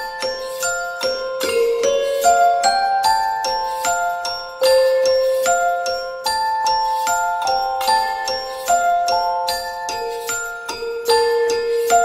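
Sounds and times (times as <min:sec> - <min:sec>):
gentle bell-like melody: 0:00.0 - 0:12.0.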